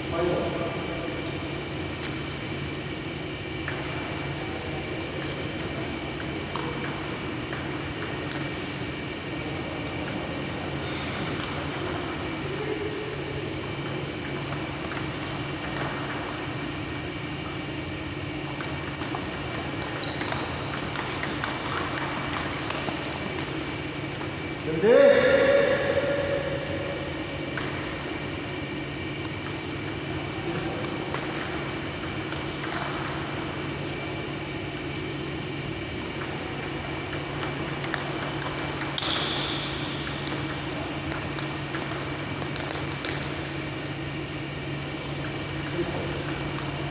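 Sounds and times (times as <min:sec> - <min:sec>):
pedestal fan humming: 0:00.0 - 0:46.9.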